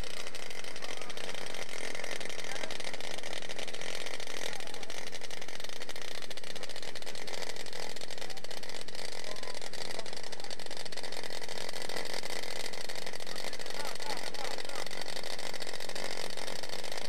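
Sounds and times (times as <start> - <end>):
model plane engine buzzing: 0.0 - 17.0.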